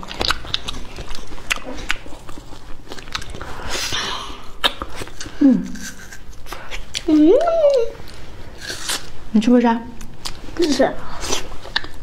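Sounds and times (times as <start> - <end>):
wet smacking and chewing: 0.0 - 9.2, 10.0 - 12.0.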